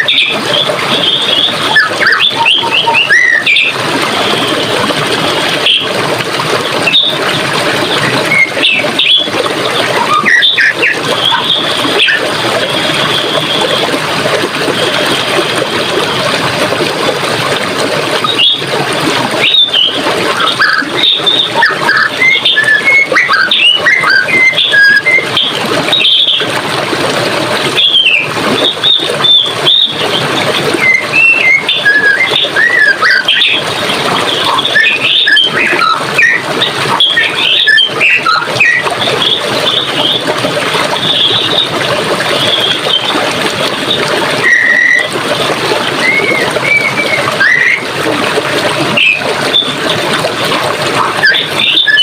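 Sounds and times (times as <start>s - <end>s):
birds chirping and whistling: 0.0s - 6.2s, 6.8s - 13.9s, 18.2s - 26.6s, 27.7s - 45.1s, 45.9s - 47.9s, 48.9s - 50.0s, 51.0s - 52.0s
running water flowing: 0.0s - 52.0s.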